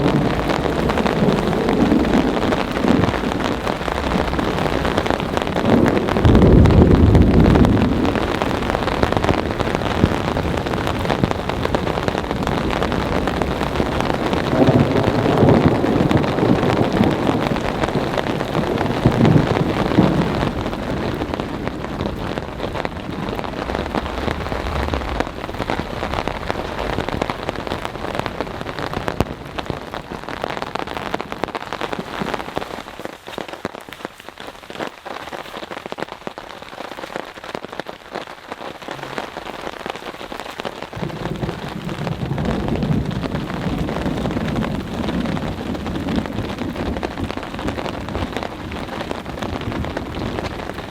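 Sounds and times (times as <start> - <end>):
thunder rumbling: 0.0 - 33.1, 38.8 - 50.9
heavy rain falling: 0.0 - 50.9.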